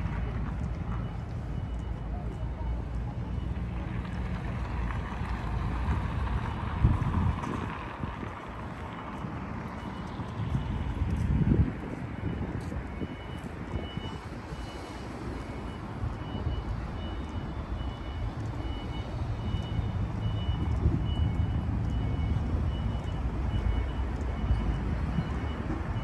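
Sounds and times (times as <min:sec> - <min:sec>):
vehicle engine rumbling: 0:00.0 - 0:26.0
reversing alarm beeping: 0:00.6 - 0:04.6, 0:05.6 - 0:26.0.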